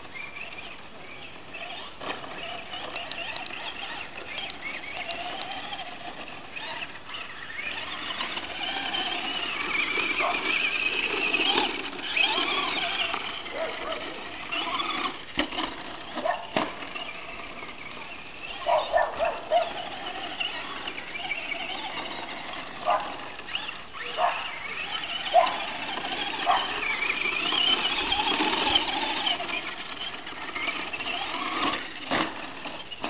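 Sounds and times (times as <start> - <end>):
electric rc truck motors whining: 0.0 - 33.0.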